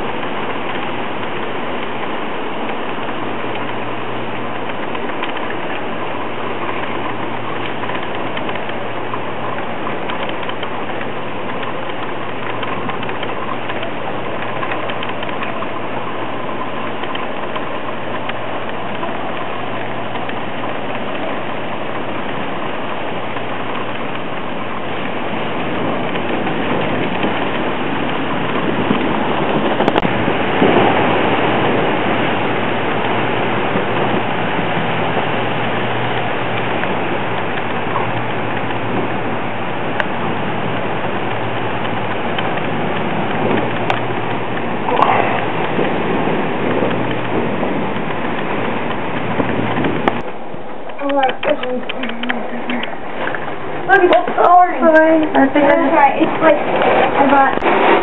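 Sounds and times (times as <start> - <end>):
heavy rain and wind rushing: 0.0 - 58.0.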